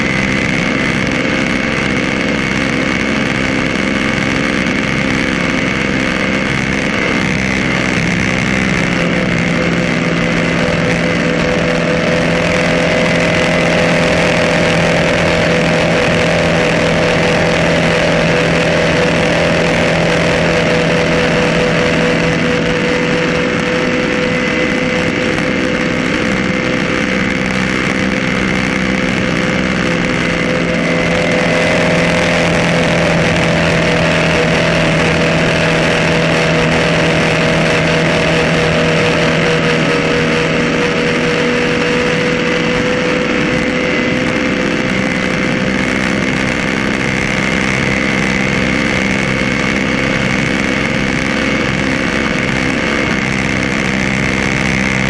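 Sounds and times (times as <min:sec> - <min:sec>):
boat engine at high speed: 0:00.0 - 0:55.0
rush of wake and spray: 0:00.0 - 0:55.0.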